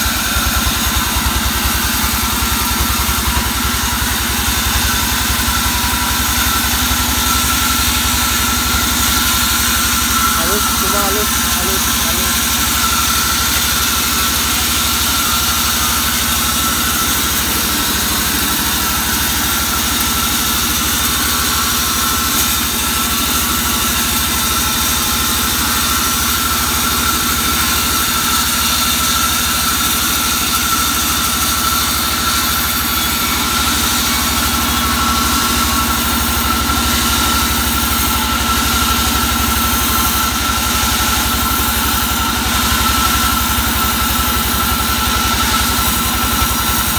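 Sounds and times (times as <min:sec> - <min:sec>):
band saw humming with high tone: 0:00.0 - 0:46.9.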